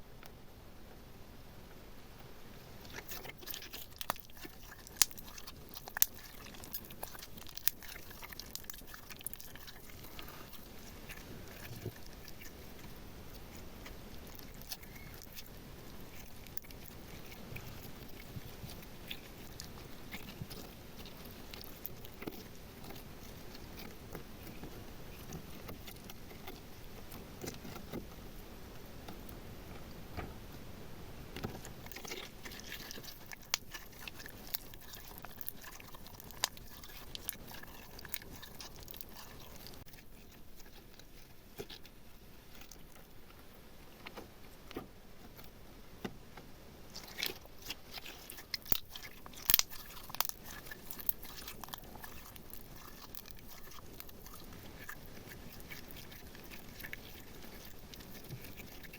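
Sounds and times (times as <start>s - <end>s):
sticky slime squishing: 2.2s - 30.7s, 31.3s - 58.9s.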